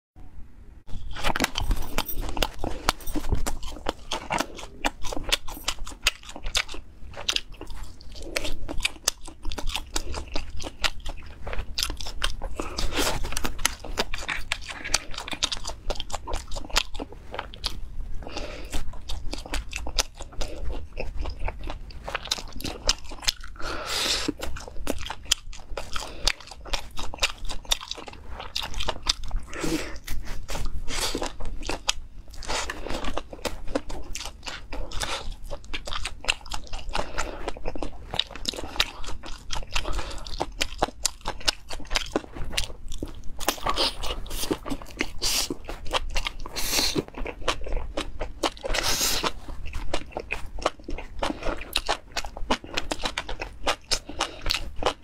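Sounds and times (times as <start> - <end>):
biting and chewing: 0.9 - 55.0.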